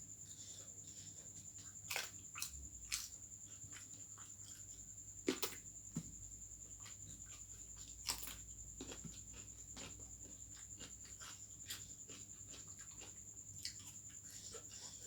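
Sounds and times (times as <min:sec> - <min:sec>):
person chewing crunchy food: 0:00.6 - 0:15.0.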